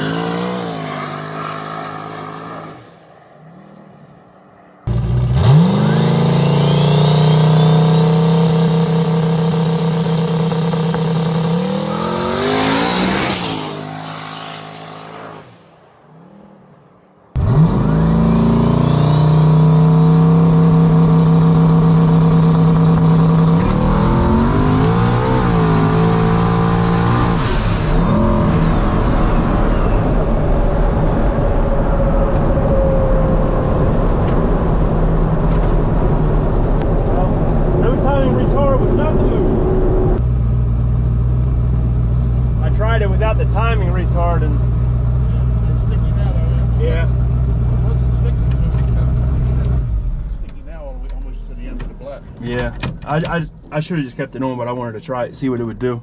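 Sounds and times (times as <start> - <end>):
car engine revving: 0.0 - 54.2
road and wind noise: 0.0 - 56.0.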